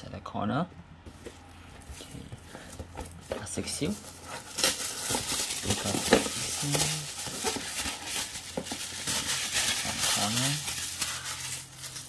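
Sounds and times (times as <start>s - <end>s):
plastic wrapping crinkling: 1.1s - 12.0s.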